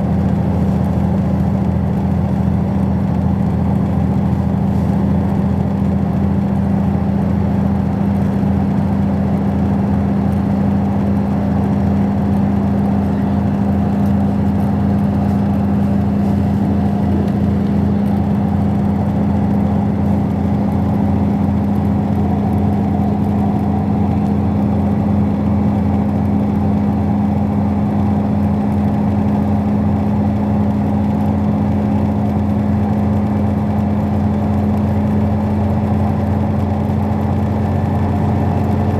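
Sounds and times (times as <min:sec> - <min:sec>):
diesel train droning on board: 0:00.0 - 0:38.9.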